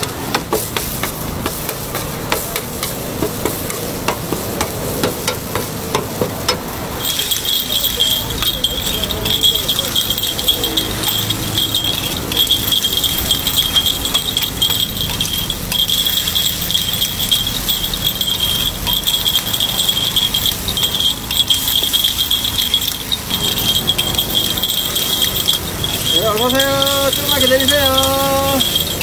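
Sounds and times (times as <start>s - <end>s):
metal picks scraping on griddle: 0.0s - 29.0s.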